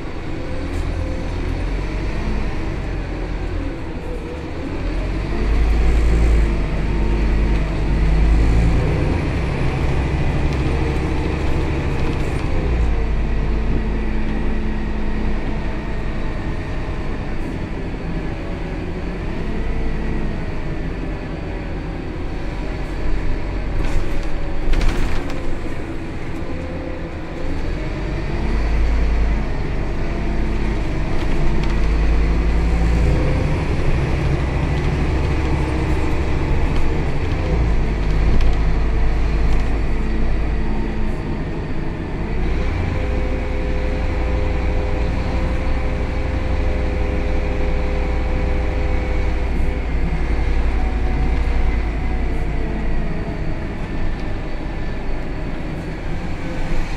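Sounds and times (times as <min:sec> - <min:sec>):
bus engine and drivetrain: 0:00.0 - 0:56.9.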